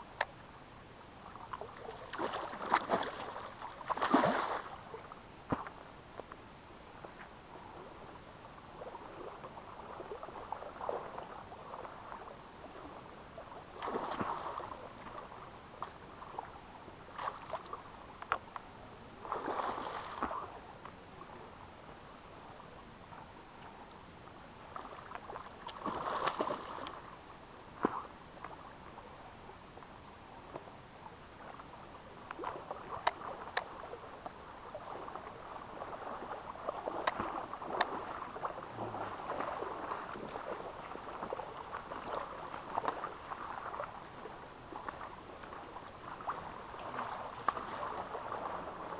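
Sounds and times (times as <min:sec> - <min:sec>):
river water running: 0:00.0 - 0:48.9
water splashing and sloshing: 0:00.0 - 0:48.9.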